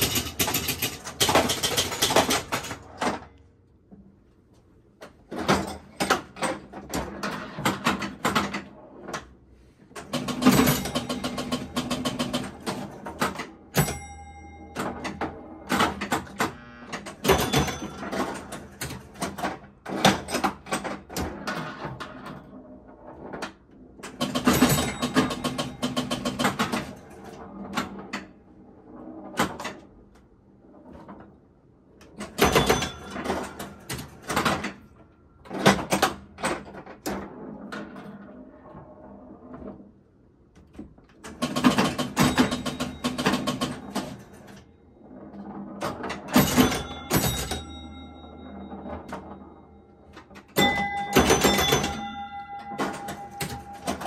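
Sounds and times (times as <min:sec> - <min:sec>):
pinball machine mechanical clacking: 0:00.0 - 0:03.5, 0:05.0 - 0:54.0.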